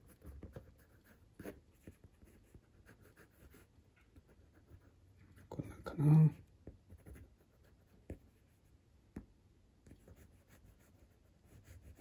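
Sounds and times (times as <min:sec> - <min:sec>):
pencil scratching on paper: 0:00.0 - 0:05.7, 0:06.9 - 0:08.7, 0:09.9 - 0:12.0.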